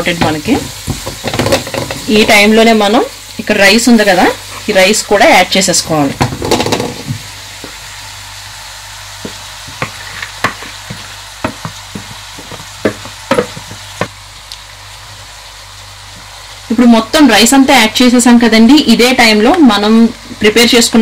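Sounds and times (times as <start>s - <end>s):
vegetables sizzling in pan: 0.0s - 21.0s.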